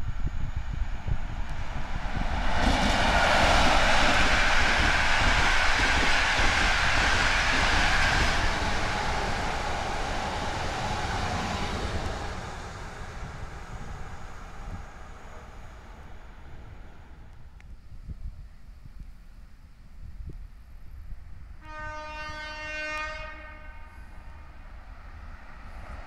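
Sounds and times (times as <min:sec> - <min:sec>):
trains rolling on rails: 0:00.0 - 0:19.6, 0:20.3 - 0:26.0
wind buffeting the microphone: 0:00.0 - 0:21.6.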